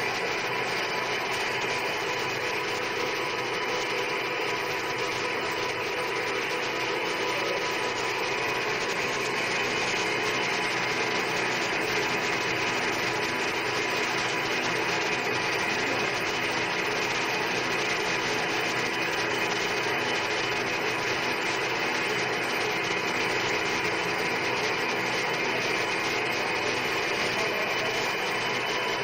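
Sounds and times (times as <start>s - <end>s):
lathe running: 0.0s - 29.0s.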